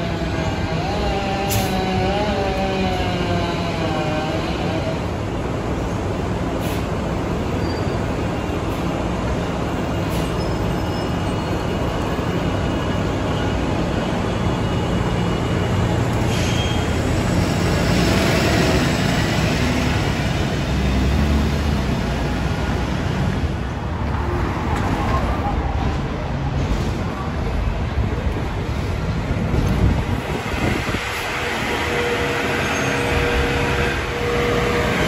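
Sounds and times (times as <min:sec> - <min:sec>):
bus drivetrain and road noise: 0:00.0 - 0:35.0.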